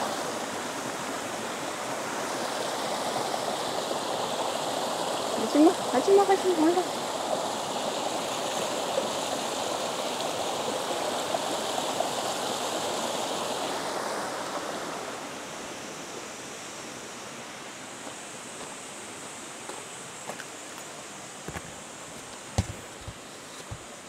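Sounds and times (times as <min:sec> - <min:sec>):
mountain stream over stones: 0:00.0 - 0:24.0.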